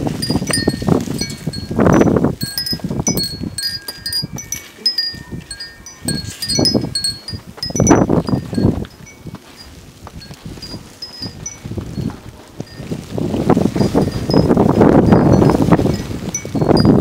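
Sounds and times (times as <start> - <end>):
metal wind chimes tinkling: 0.0 - 17.0
wind gusting against microphone: 0.0 - 17.0.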